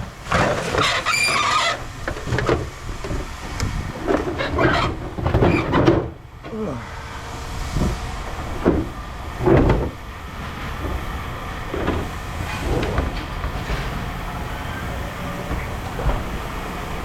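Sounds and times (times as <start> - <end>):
heavy engine rumbling: 0.0 - 17.0.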